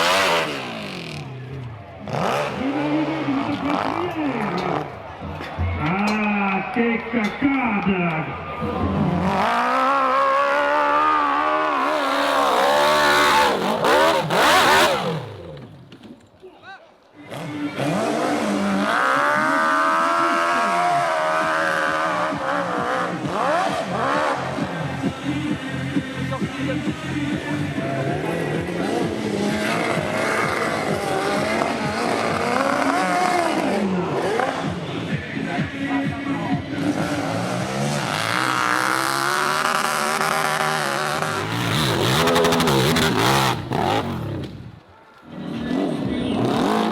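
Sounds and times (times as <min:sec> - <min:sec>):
motocross bike engine revving: 0:00.0 - 0:05.1, 0:08.6 - 0:15.9, 0:17.2 - 0:44.7, 0:45.3 - 0:46.9.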